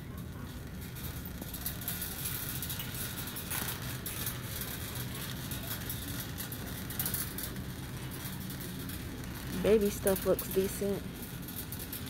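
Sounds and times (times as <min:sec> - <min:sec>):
shopping cart wheels rumbling: 0:00.0 - 0:12.0
wire basket rattling: 0:00.0 - 0:12.0.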